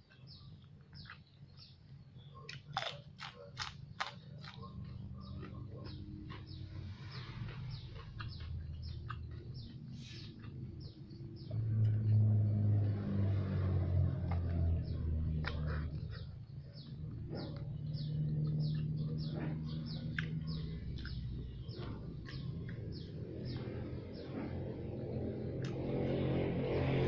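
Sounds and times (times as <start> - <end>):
small birds chirping: 0.0 - 27.0
low hum: 4.8 - 27.0.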